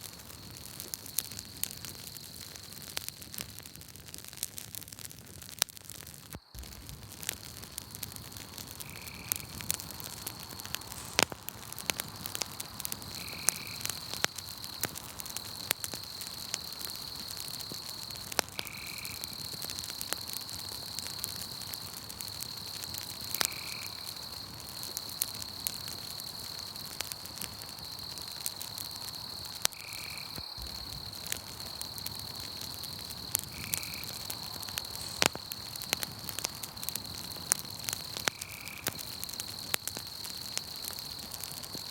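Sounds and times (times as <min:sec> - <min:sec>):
campfire crackling and popping: 0:00.0 - 0:41.9
high insect trill: 0:06.0 - 0:41.9.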